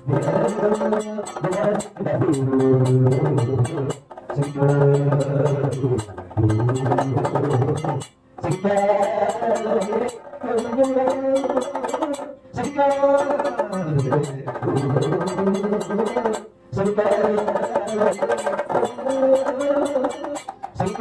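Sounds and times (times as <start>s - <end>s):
man singing in sliding phrases: 0.0s - 21.0s.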